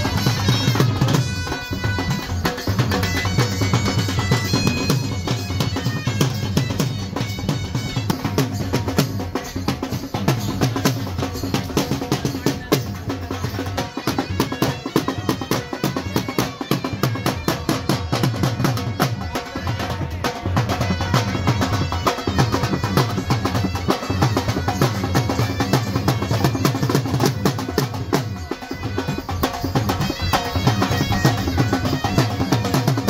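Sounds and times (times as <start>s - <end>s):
dhol drums beating: 0.0s - 33.0s.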